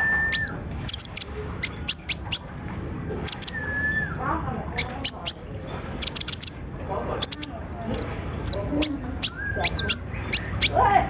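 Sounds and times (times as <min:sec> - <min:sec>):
songbirds chipping: 0:00.0 - 0:11.0.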